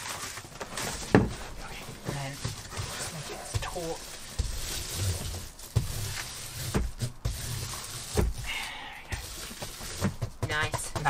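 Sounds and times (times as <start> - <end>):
foil insulation crinkling: 0.0 - 11.0.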